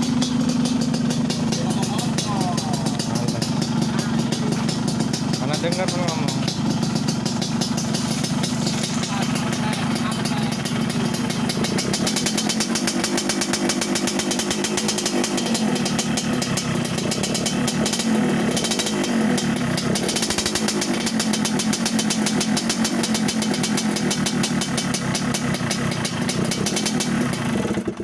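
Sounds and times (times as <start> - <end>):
two-stroke motorcycle engine running: 0.0 - 28.0.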